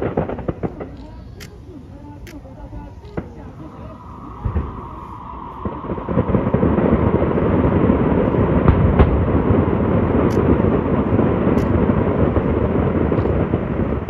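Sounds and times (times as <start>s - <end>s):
fireworks rumble and crackle: 0.0s - 14.0s
sharp firework bangs: 0.0s - 14.0s.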